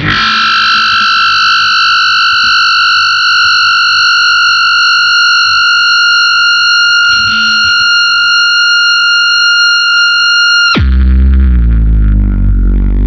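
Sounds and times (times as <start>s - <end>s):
distorted electric guitar tone: 0.0s - 13.0s.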